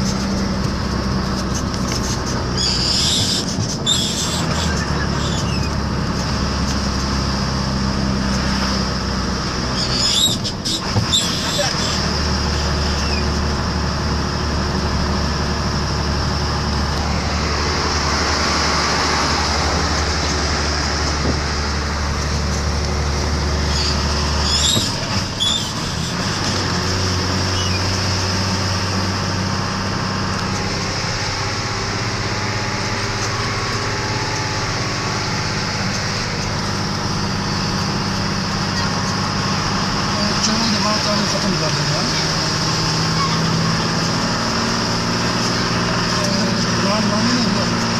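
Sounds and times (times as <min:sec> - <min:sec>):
vehicle engine and tyre drone: 0:00.0 - 0:47.9.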